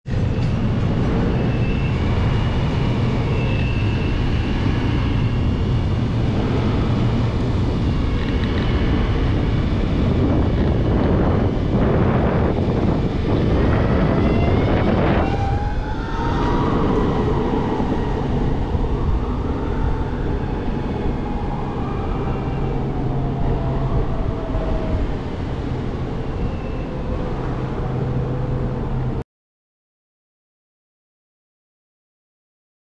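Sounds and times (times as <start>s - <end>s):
wind on microphone: 0.1s - 29.2s.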